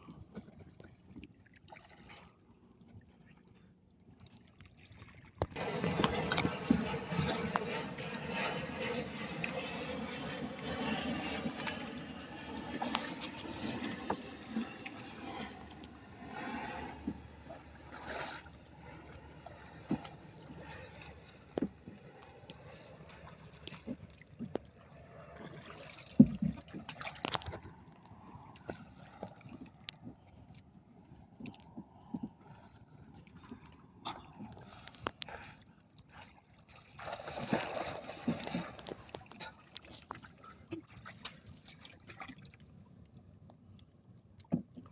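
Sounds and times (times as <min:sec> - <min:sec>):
sea water splashing around boat: 0:00.0 - 0:44.9.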